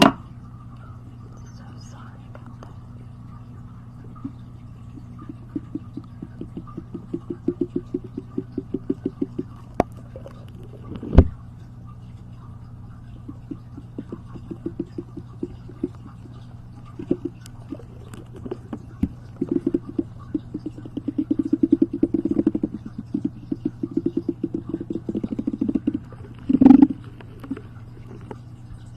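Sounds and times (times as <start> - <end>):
steady low hum: 0.0 - 28.9
rapid light tapping: 4.0 - 11.4, 13.0 - 28.9.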